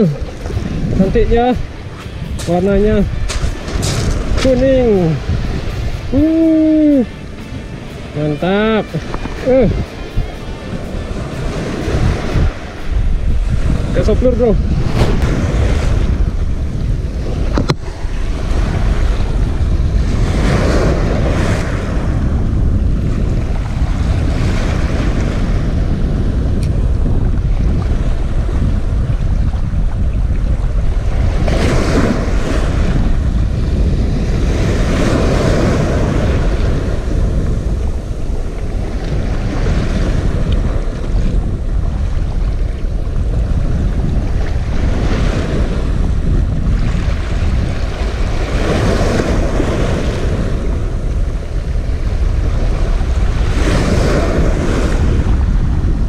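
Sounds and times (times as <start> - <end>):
waves against rocky shore: 0.0 - 56.0
wind buffeting microphone: 0.0 - 56.0.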